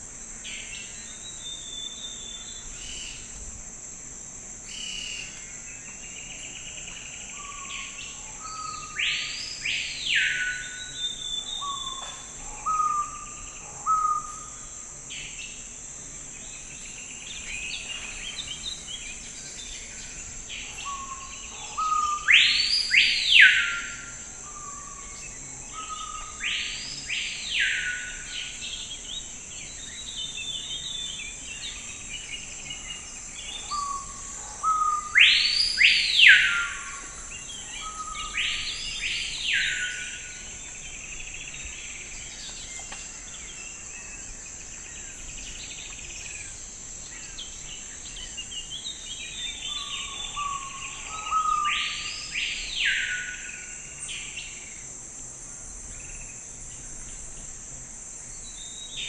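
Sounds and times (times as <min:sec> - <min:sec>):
insect drone: 0:00.0 - 0:59.0
forest birds calling: 0:04.8 - 0:14.7, 0:16.4 - 0:54.8.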